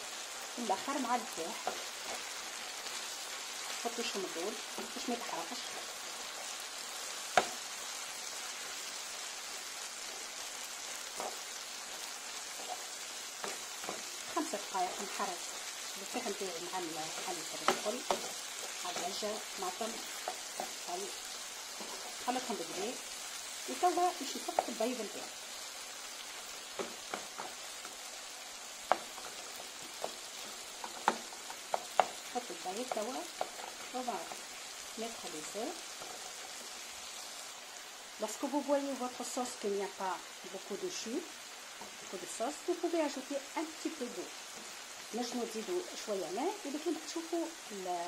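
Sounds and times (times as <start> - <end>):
sauce sizzling in a frying pan: 0.0 - 48.0.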